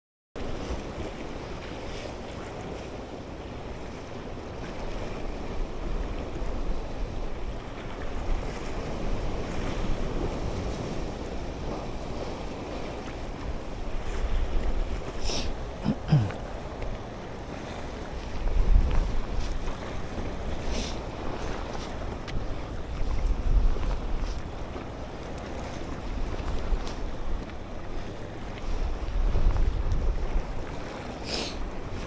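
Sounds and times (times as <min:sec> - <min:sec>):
wind buffeting microphone: 0:00.4 - 0:15.8, 0:16.4 - 0:32.0.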